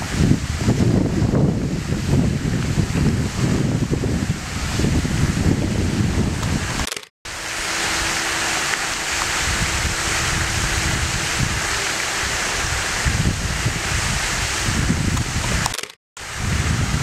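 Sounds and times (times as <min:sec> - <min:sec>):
wind on microphone: 0:00.0 - 0:06.9, 0:07.5 - 0:17.0.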